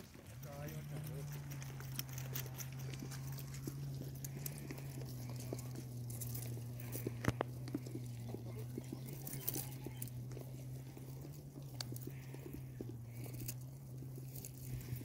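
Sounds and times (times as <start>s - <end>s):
sheep chewing grass: 0.0s - 15.0s
steady low hum: 0.0s - 15.0s.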